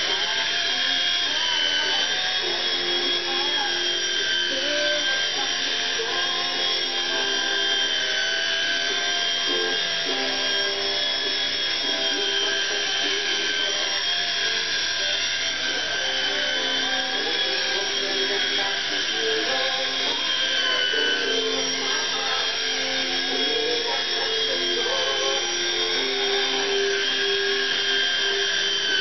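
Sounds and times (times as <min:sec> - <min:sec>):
toy helicopter rotor whining: 0:00.0 - 0:29.0.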